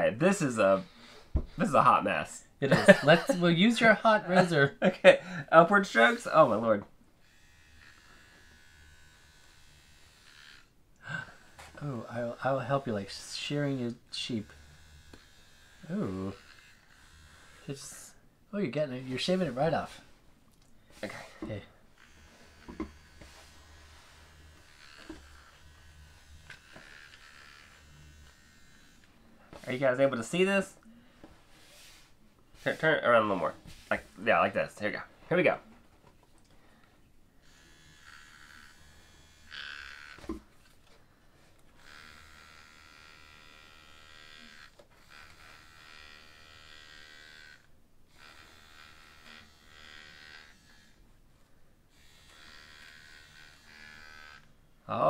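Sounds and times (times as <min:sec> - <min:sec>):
toy clippers buzzing faintly: 0:07.2 - 0:18.2, 0:18.8 - 0:51.1, 0:51.9 - 0:55.0.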